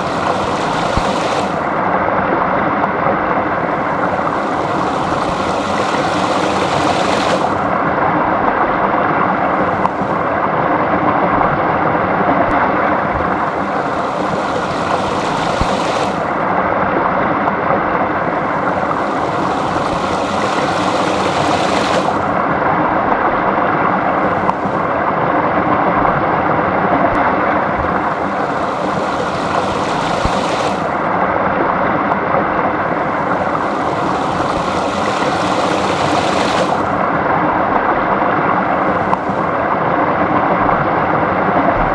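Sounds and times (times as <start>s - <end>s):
brook flowing water: 0.0s - 41.9s.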